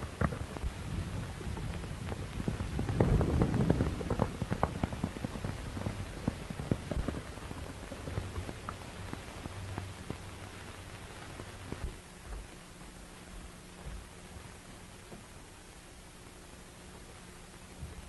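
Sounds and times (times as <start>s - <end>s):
crackles and thuds: 0.0s - 15.8s, 16.9s - 18.0s
film soundtrack hiss: 0.0s - 18.0s
low hum: 0.0s - 18.0s.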